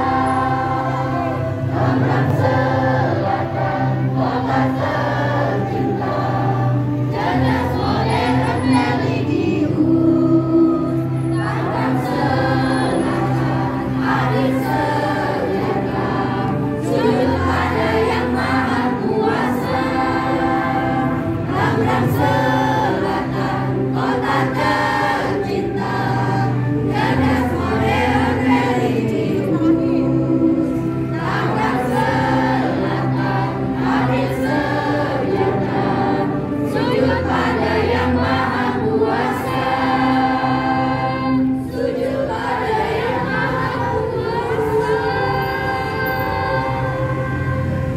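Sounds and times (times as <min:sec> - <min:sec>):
low held accompaniment notes: 0:00.0 - 0:47.9
women's choir singing a hymn: 0:00.0 - 0:47.9.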